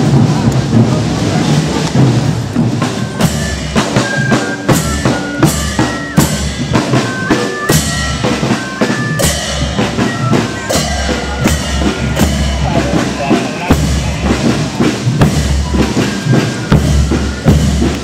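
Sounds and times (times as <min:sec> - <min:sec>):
bass drum and snare march: 0:00.0 - 0:18.0
high piping fife melody: 0:02.8 - 0:18.0.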